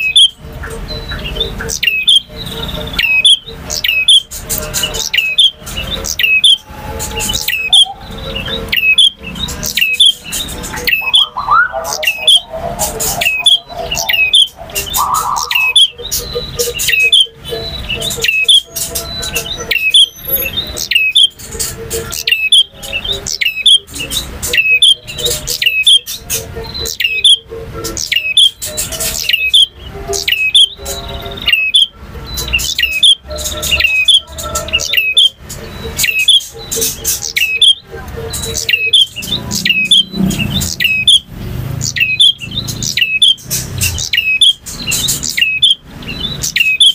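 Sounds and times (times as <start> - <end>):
bird singing sharp chirps: 0.0 - 46.9.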